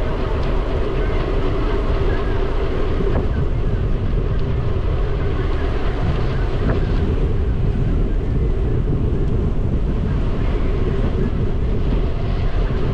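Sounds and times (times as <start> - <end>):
wind rushing over microphone: 0.0 - 12.9.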